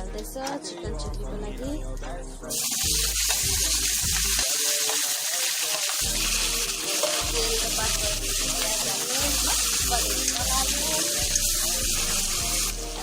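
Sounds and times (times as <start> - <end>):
background music: 0.0 - 13.0
onions sizzling in oil: 2.5 - 13.0.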